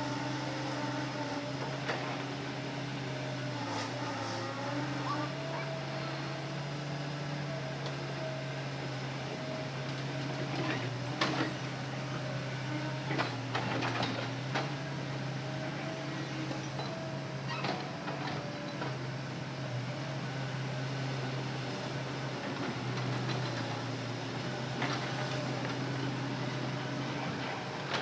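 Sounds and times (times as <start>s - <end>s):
excavator engine drone: 0.0s - 28.0s.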